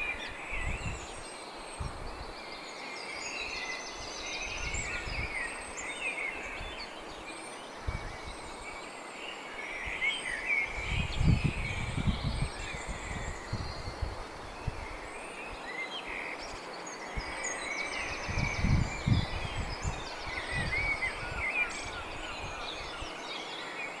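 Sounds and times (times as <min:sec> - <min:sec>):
small birds chirping and singing: 0:00.0 - 0:24.0.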